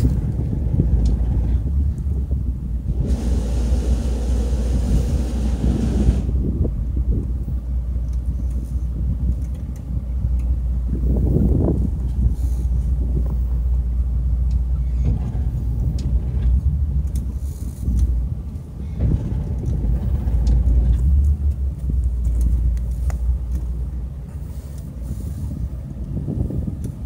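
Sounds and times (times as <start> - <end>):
motorboat engine rumbling: 0.0 - 27.0.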